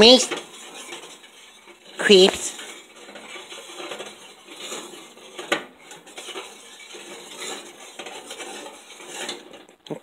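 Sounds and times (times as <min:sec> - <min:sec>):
metal kitchenware clinking: 0:00.0 - 0:09.7.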